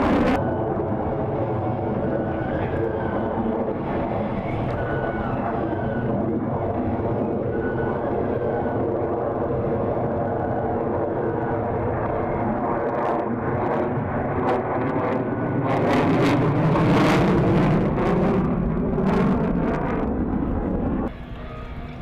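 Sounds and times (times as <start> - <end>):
jet aircraft flying overhead: 0.0 - 22.0.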